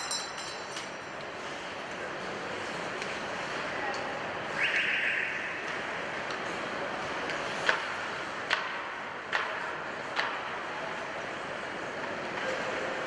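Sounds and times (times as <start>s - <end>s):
ice arena background: 0.0s - 13.0s.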